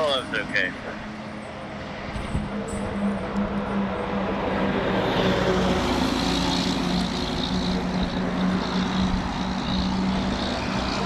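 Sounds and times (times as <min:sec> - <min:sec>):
fire truck diesel engine: 0:00.0 - 0:11.0
road noise: 0:00.0 - 0:11.0.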